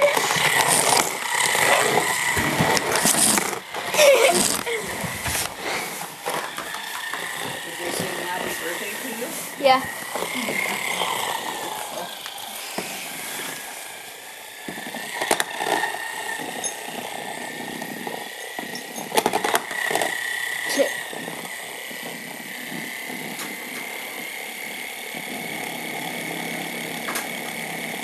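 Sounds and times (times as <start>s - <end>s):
spinning top whirring: 0.0s - 28.0s.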